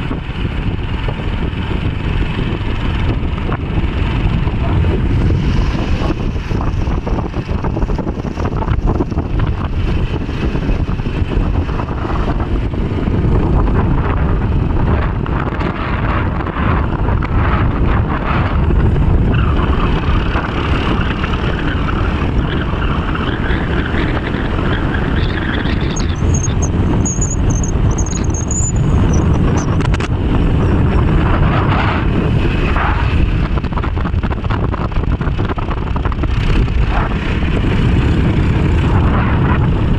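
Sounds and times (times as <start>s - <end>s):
moving vehicle noise: 0.0s - 39.9s
wind buffeting microphone: 0.0s - 39.9s.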